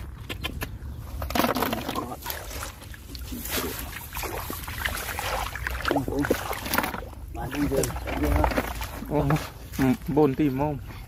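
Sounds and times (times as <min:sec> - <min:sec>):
wet squelching in mud: 0:00.2 - 0:10.2.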